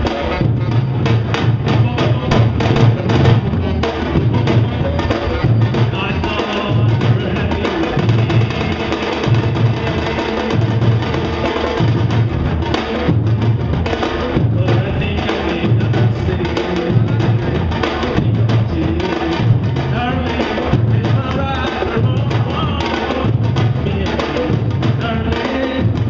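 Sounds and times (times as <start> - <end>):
bass drums beating: 0.0 - 26.0
busier drum strokes: 0.0 - 26.0.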